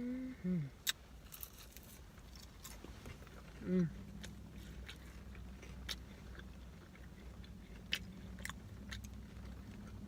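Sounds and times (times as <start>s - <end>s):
steady low hum: 0.0s - 10.0s
wet chewing and mouth-smacking: 0.8s - 10.0s.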